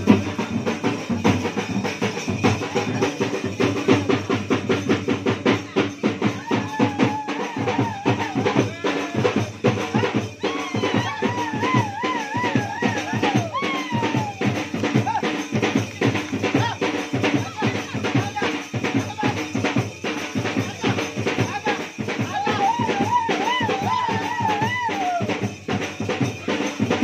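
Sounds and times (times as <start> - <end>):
fast steady drumming: 0.0 - 27.0.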